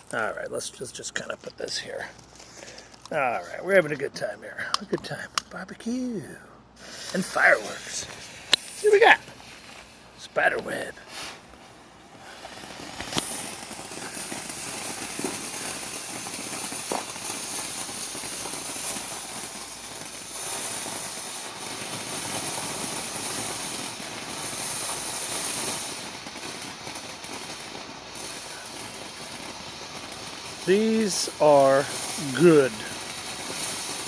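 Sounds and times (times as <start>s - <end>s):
firework fountain hissing: 0.0s - 4.0s, 4.7s - 34.0s
sharp pops: 4.6s - 6.0s, 6.8s - 34.0s.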